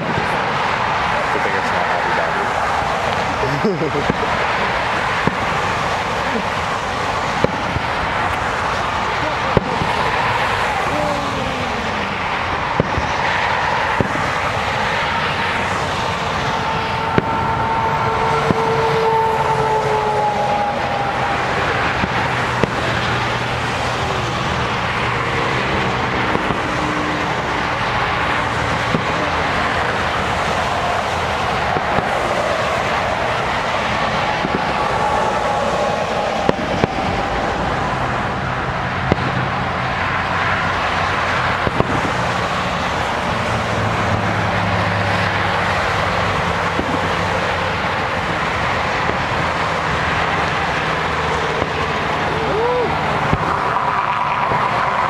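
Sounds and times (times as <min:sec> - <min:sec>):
distant fireworks popping: 0:00.0 - 0:11.0, 0:12.0 - 0:55.0.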